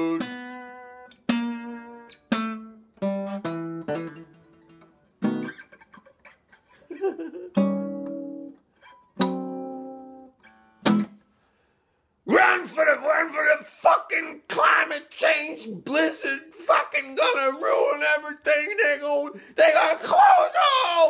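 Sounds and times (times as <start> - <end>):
acoustic guitar blues riff: 0.0 - 6.9, 7.5 - 11.3, 12.3 - 21.0.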